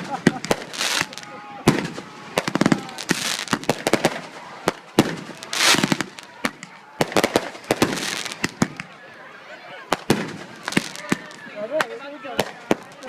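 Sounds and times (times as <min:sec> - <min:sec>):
fireworks popping and banging: 0:00.0 - 0:09.0, 0:09.9 - 0:13.0.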